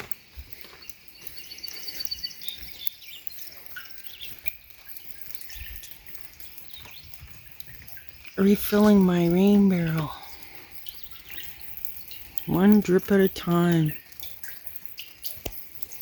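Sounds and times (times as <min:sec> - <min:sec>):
water dripping into rain barrel: 0:00.0 - 0:16.0
small bird chirping: 0:00.5 - 0:16.0.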